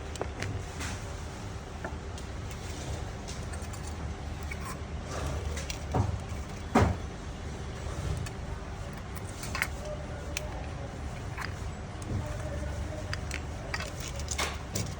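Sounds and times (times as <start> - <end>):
workshop machinery humming: 0.0 - 14.9.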